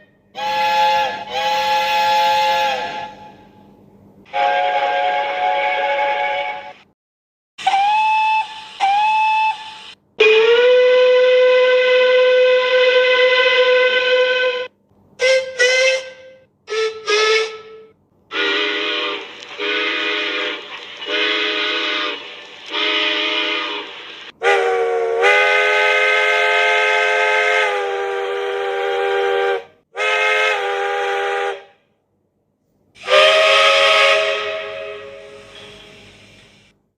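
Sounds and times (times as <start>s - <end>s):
steam locomotive whistle: 0.0s - 6.9s, 7.6s - 31.8s, 33.0s - 36.7s.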